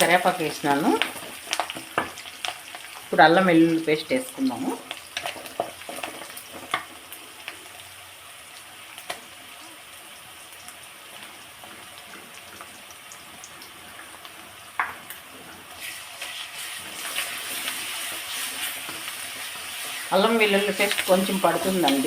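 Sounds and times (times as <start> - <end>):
onions frying in hot oil: 0.0 - 22.0.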